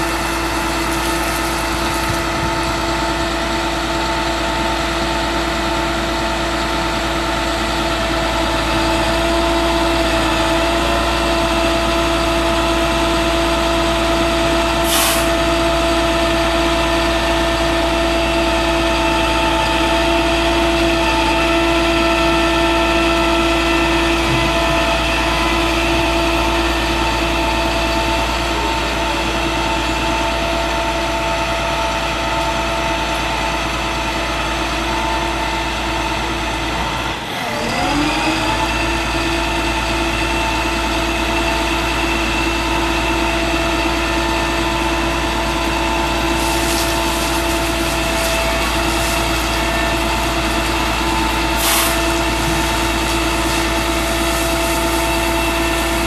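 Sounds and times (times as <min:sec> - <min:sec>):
diesel truck engine whining: 0:00.0 - 0:56.0.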